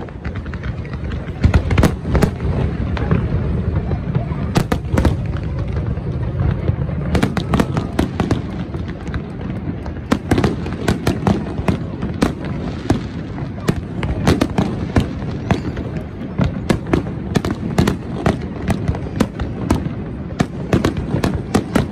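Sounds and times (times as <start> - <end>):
fireworks bangs and crackling: 0.0 - 21.9.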